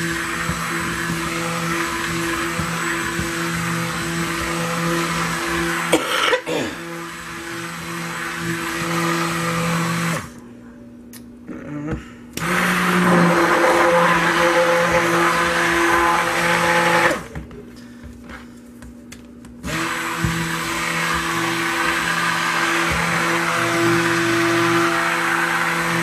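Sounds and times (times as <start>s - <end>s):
stick blender motor hum: 0.0s - 10.4s, 12.4s - 17.4s, 19.6s - 26.0s.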